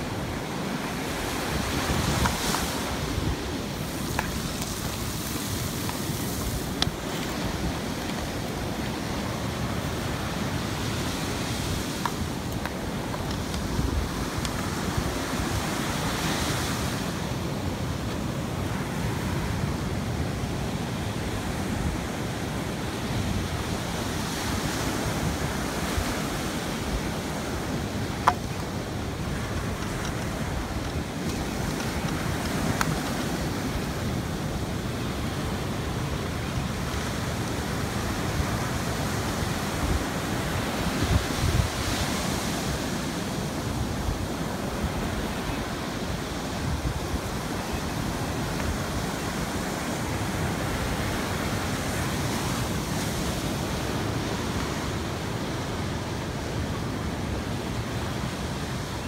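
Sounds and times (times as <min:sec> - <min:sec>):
wind buffeting microphone: 0:00.0 - 0:55.4
surf breaking on shore: 0:00.0 - 0:59.0.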